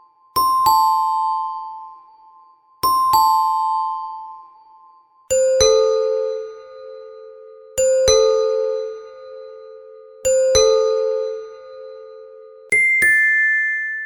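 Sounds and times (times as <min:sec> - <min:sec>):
lower-pitched doorbell chime: 0:00.0 - 0:14.0
two-tone doorbell chime: 0:00.0 - 0:14.0.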